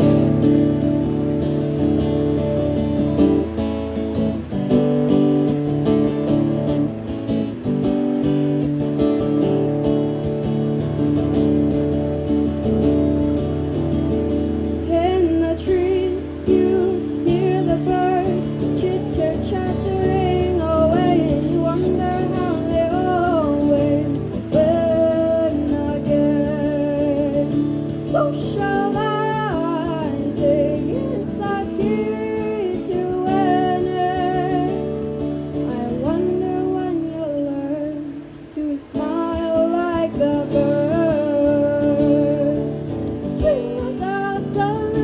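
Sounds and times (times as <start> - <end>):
woman singing: 0.0 - 6.9, 7.5 - 45.0
acoustic guitar: 0.0 - 45.0.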